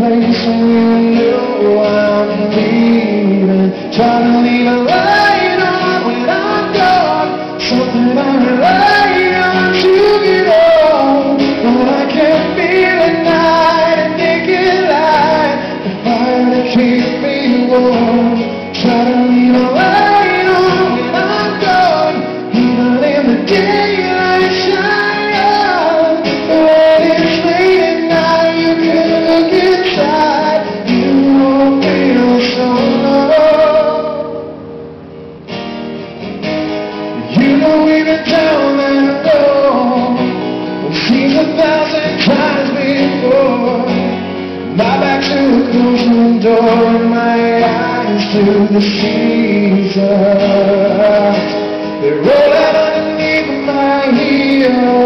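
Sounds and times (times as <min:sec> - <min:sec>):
man singing: 0:00.0 - 0:34.6, 0:37.1 - 0:55.0
strummed acoustic guitars: 0:00.0 - 0:55.0.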